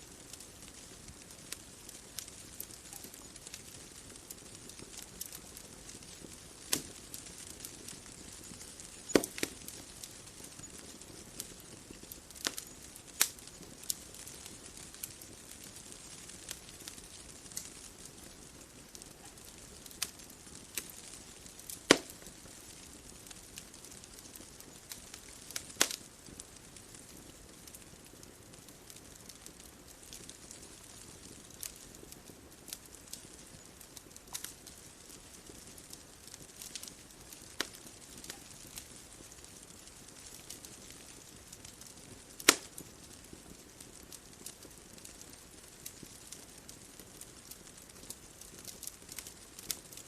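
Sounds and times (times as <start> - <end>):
bonfire crackling and popping: 0.0 - 50.0
soft steady fire hiss: 0.0 - 50.0.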